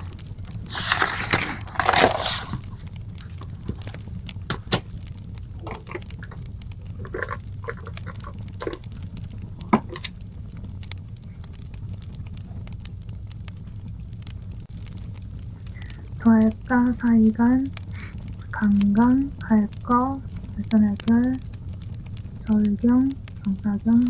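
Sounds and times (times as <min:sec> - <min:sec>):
low hum: 0:00.0 - 0:24.0
rustling: 0:00.0 - 0:24.0
wood fire crackling: 0:00.0 - 0:24.0.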